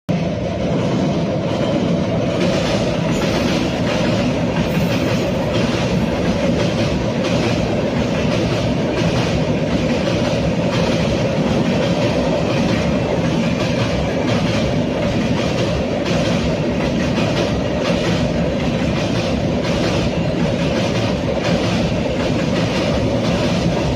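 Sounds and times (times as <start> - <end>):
train wheels rumbling on rail: 0.1 - 23.9.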